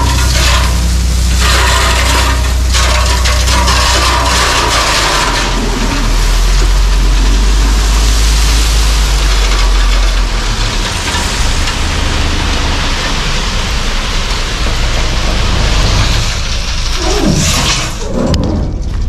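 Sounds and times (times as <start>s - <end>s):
gravel pouring from truck bed: 0.0s - 18.2s
truck engine drone: 0.0s - 19.0s.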